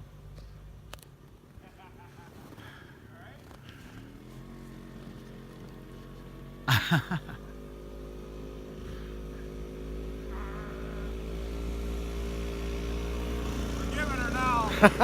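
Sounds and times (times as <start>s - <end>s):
snowmobile engine running: 1.4s - 15.0s.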